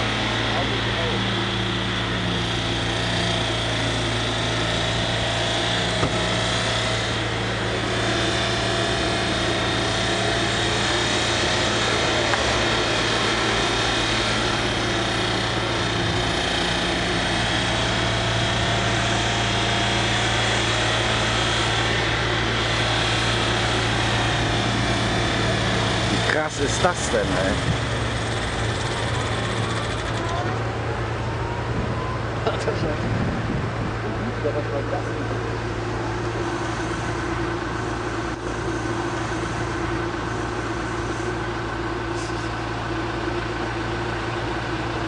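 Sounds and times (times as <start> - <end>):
car engine running at high speed: 0.0 - 45.0.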